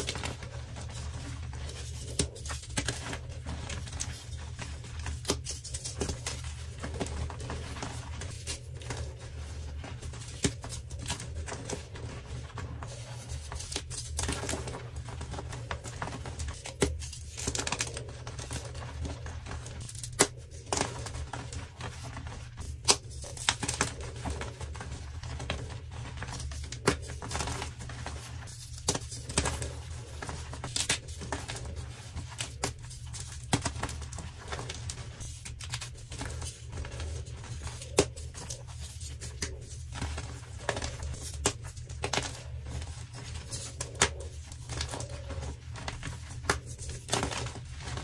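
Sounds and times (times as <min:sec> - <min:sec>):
chalk crunching and crumbling: 0:00.0 - 0:48.0.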